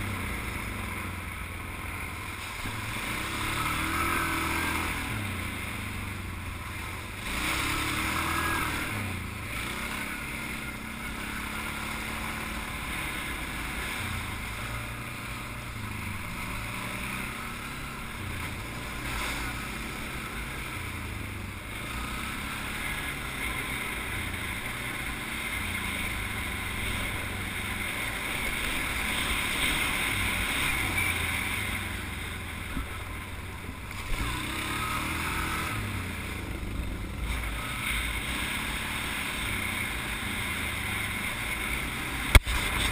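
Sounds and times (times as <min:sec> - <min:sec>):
atv engine running: 0:00.0 - 0:42.9
tyre and trail noise: 0:00.0 - 0:42.9.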